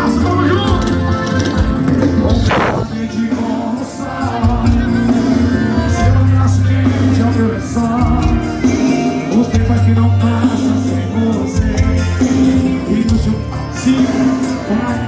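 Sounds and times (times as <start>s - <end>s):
live band music with heavy bass: 0.0s - 15.0s
man singing: 0.0s - 15.0s.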